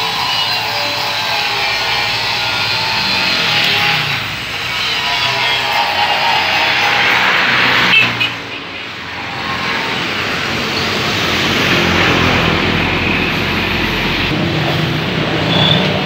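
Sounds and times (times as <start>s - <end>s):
passing vehicles hissing: 0.0s - 16.0s.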